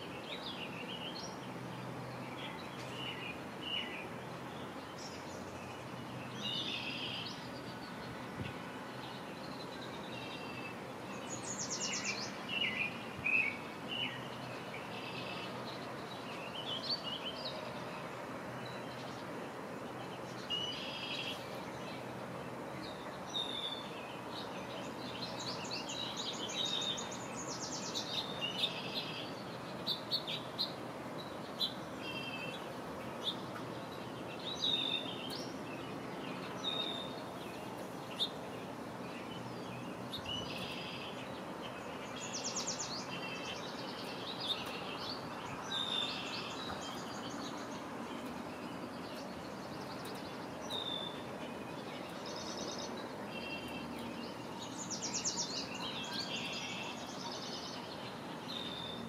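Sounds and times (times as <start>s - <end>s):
background hiss: 0.0s - 59.0s
songbirds chirping: 0.0s - 59.0s.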